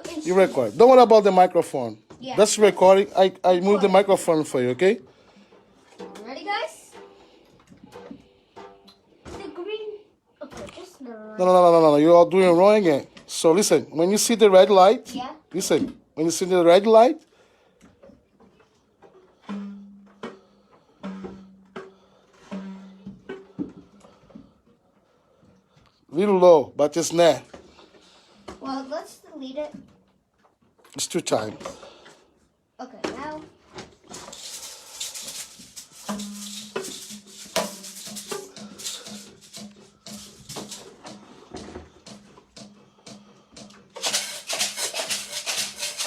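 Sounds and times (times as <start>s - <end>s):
homemade percussion rattling: 0.0s - 9.6s, 11.4s - 30.1s, 33.0s - 46.0s.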